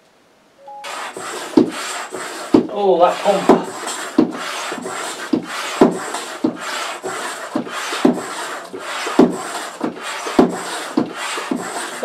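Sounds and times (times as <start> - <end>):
hand pump rasping air: 0.8 - 12.0.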